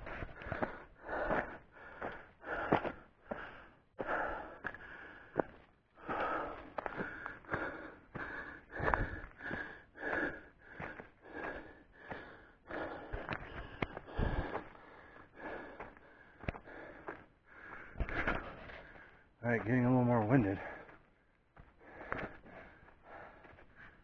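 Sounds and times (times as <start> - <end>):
footsteps on dirt and gravel: 0.0 - 24.0
person panting: 0.0 - 24.0.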